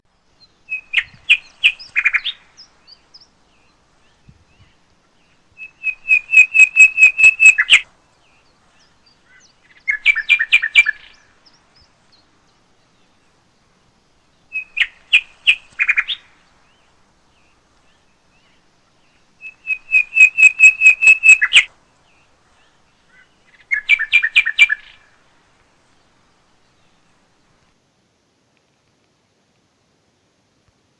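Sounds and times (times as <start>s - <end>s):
bird chirping: 0.1s - 25.2s.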